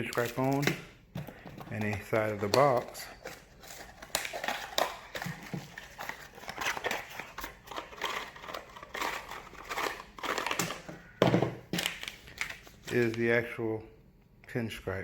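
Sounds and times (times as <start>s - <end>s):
packaging rustling and crinkling: 0.0s - 11.0s, 11.6s - 13.3s.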